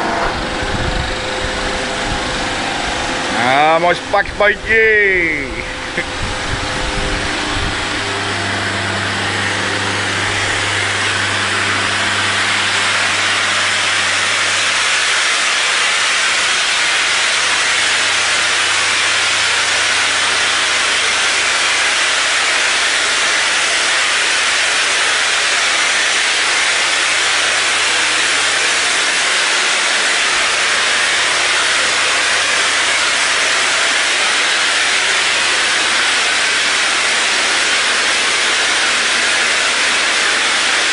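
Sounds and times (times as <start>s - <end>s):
spray machine humming: 0.0s - 40.9s
spray gun hissing: 1.7s - 40.9s.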